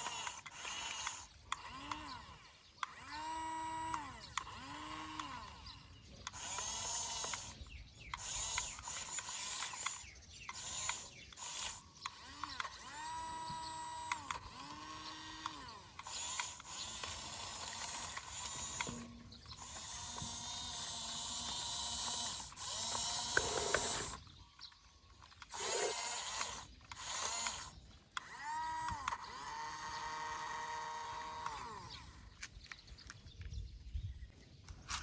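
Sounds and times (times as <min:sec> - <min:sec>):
toy electric motors whirring: 0:00.0 - 0:33.4.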